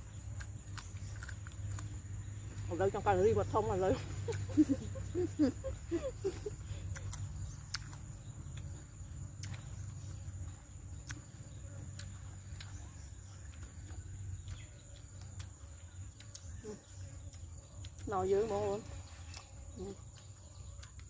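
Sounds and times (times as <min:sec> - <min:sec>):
low background rumble: 0:00.0 - 0:21.0
quiet chewing: 0:00.0 - 0:21.0.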